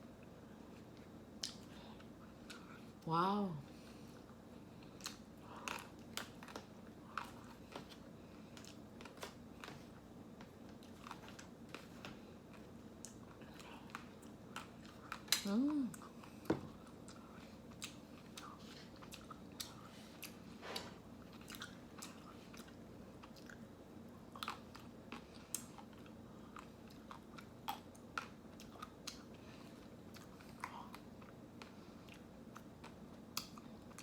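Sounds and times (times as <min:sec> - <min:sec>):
faint steady hum: 0:00.0 - 0:34.0
person chewing ice cream: 0:00.2 - 0:03.0, 0:03.7 - 0:34.0.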